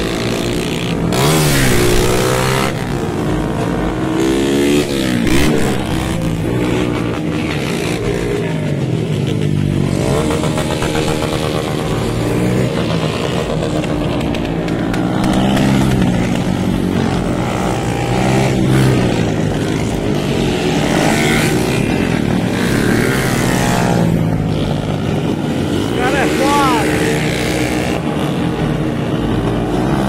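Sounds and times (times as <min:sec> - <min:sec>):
motorcycles revving: 0:00.0 - 0:30.0.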